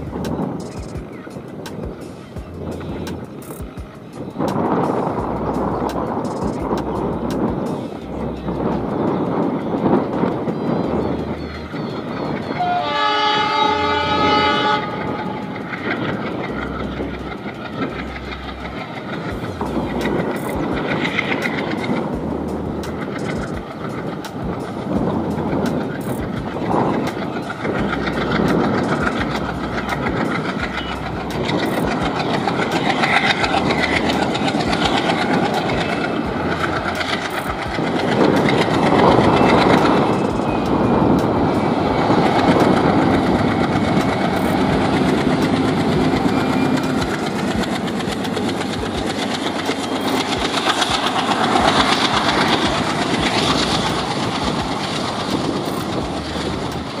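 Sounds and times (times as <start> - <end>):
diesel locomotive engine: 0.0 - 57.0
train coaches rolling by: 0.0 - 57.0.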